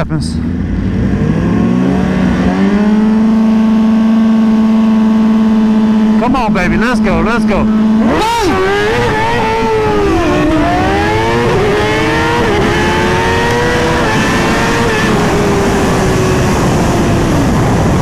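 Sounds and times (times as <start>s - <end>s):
motorcycle accelerating hard: 0.4s - 18.0s.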